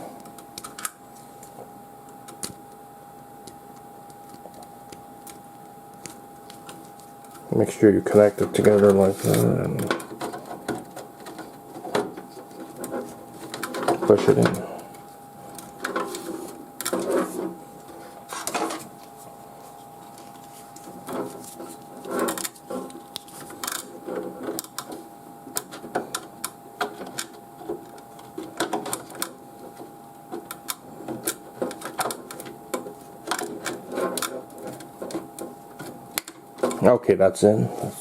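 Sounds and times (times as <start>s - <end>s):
cable rustling: 3.4s - 36.9s.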